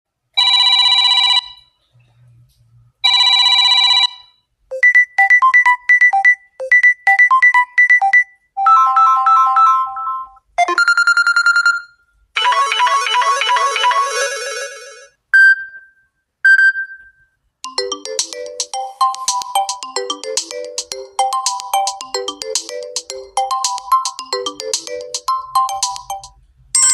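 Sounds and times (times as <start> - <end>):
electronic ringtone tunes: 3.1 - 15.9, 16.5 - 26.9.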